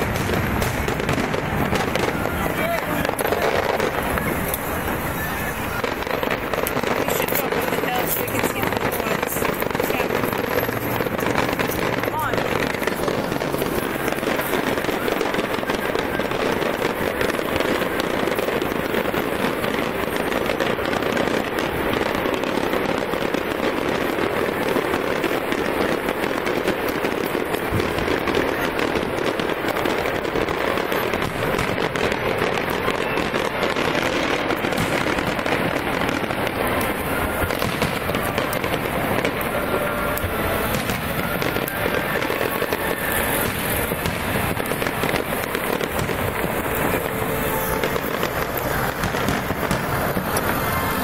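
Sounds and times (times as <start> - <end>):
fireworks crackling and popping: 0.0 - 51.0.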